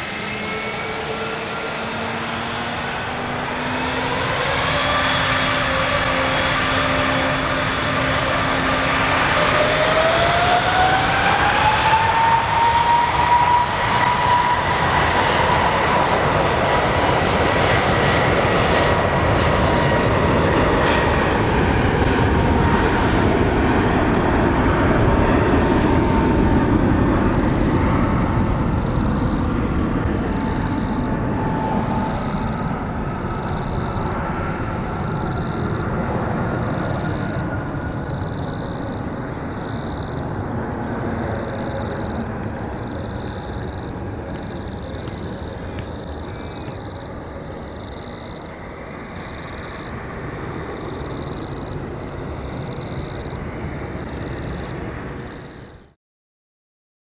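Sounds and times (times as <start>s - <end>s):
jet engines whining and roaring: 0.0s - 56.0s.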